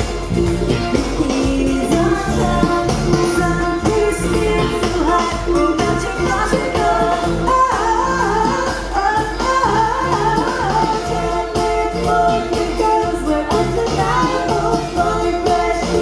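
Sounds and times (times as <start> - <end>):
live band playing: 0.0 - 16.0
woman singing: 1.0 - 16.0.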